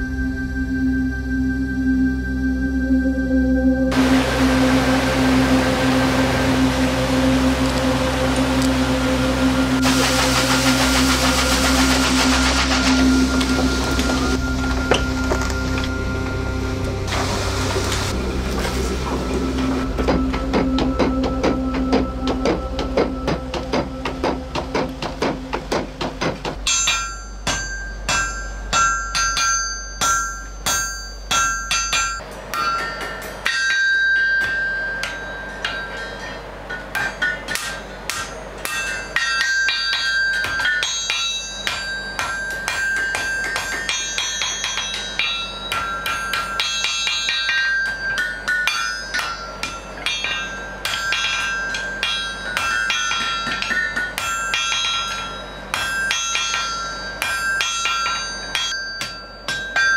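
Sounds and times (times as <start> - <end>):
anvil ringing: 3.9 - 59.9
mechanical tilt hammer pounding: 3.9 - 59.9
hammer striking iron on anvil: 9.4 - 17.4, 19.0 - 59.9.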